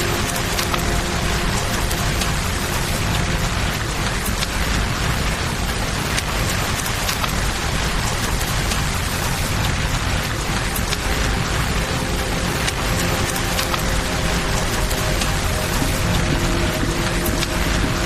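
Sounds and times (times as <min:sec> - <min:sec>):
campfire crackling: 0:00.0 - 0:18.0
flowing water: 0:00.0 - 0:18.0
rain falling: 0:00.0 - 0:18.0.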